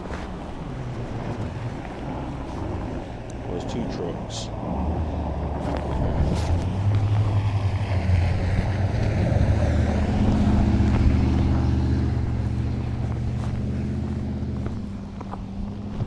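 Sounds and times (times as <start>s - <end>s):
wind buffeting microphone: 0.0s - 3.9s, 4.5s - 16.0s
vehicle engine humming: 0.0s - 16.0s.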